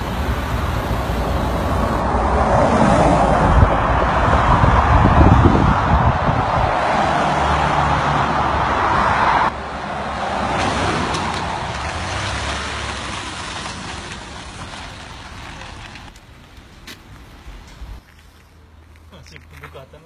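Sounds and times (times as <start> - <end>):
outdoor background noise: 0.0 - 20.0
road traffic rushing: 0.0 - 20.0.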